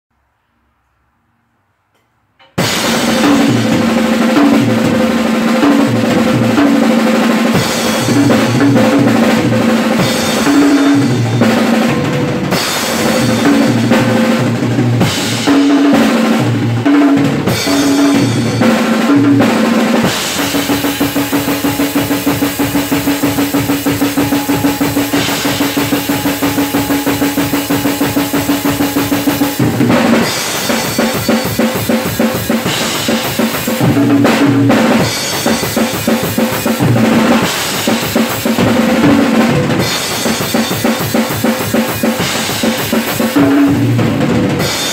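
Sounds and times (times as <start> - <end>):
drum kit played fast: 2.6 - 44.9.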